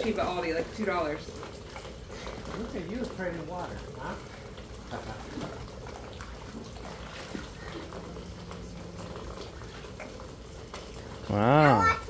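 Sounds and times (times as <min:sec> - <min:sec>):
rain hissing on pool: 0:00.0 - 0:12.0
water splashing from swimmers: 0:00.0 - 0:12.0.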